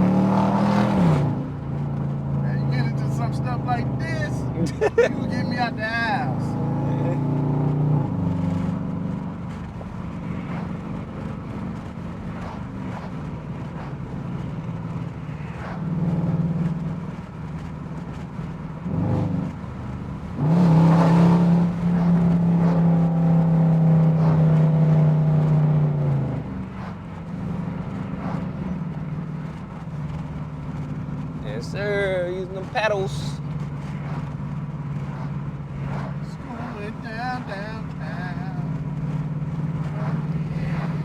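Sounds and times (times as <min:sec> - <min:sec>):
engine accelerating through gears: 0:00.0 - 0:41.0.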